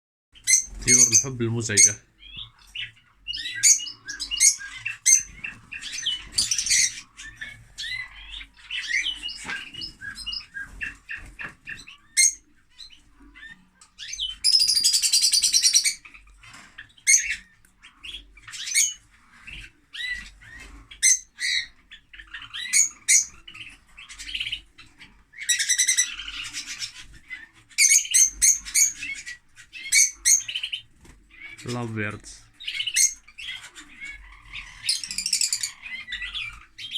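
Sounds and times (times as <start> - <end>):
lovebirds chirping and squawking: 0.4 - 36.9.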